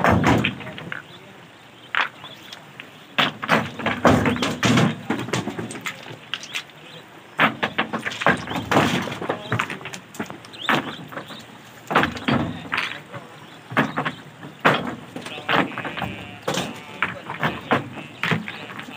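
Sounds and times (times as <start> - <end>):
stones landing in metal truck bed: 0.0 - 1.1, 3.2 - 6.7, 7.4 - 18.9.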